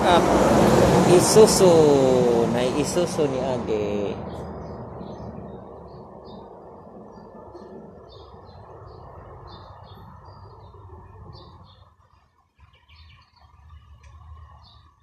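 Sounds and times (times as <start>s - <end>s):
street traffic rumble: 0.0s - 15.0s
small birds chirping: 2.6s - 15.0s.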